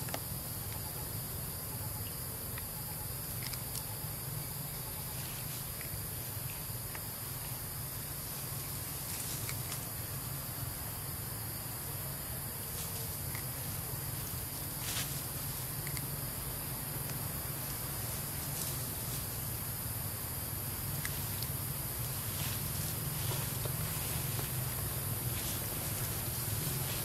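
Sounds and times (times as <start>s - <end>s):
constant low hum: 0.0s - 27.0s
high-pitched insect chorus: 0.0s - 27.0s.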